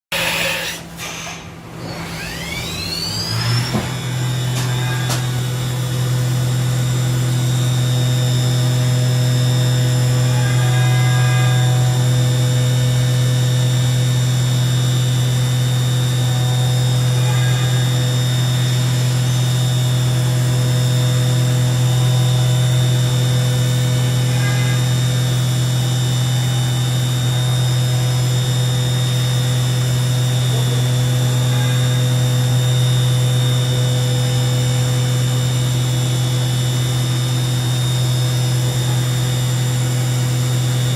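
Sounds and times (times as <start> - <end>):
machining center mechanical hum: 0.1 - 40.9.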